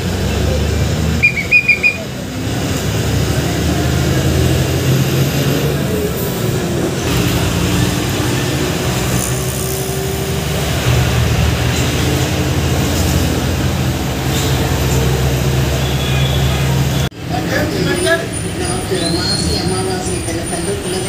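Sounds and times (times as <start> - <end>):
bus engine running: 0.0 - 21.0
road noise: 0.0 - 21.0.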